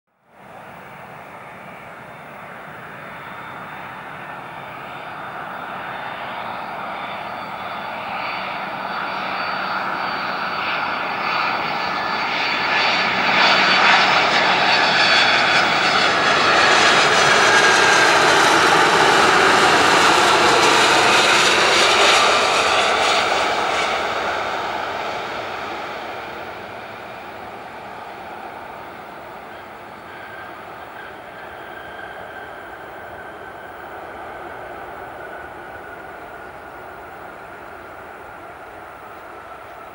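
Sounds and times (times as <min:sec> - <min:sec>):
jet engines whining: 0:00.5 - 0:39.9.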